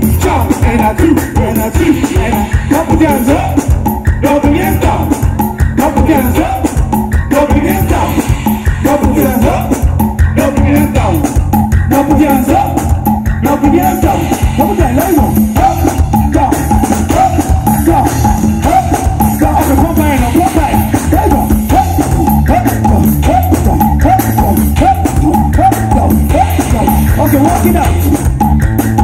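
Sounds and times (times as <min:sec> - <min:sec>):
heavy bass line: 0:00.0 - 0:29.0
live band music with singing: 0:00.0 - 0:29.0.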